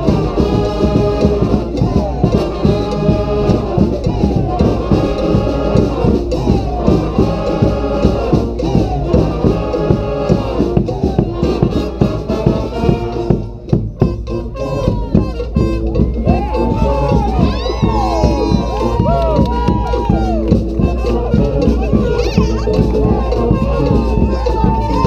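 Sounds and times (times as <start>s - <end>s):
marching snare and bass drums: 0.0s - 25.0s
trombones and trumpets: 0.0s - 25.0s.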